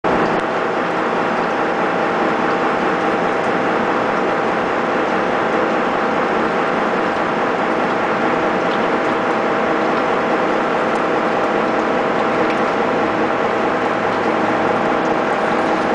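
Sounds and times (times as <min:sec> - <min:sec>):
machine hum: 0:00.0 - 0:15.9.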